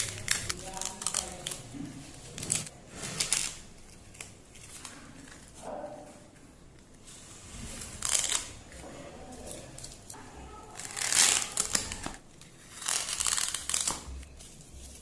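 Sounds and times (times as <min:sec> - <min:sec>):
tape crinkling: 0:00.0 - 0:05.6, 0:07.7 - 0:08.8, 0:09.4 - 0:15.0.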